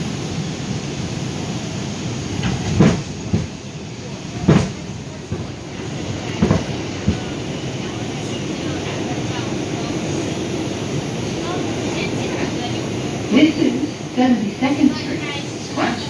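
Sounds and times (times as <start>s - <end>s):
subway car rumbling: 0.0s - 16.0s.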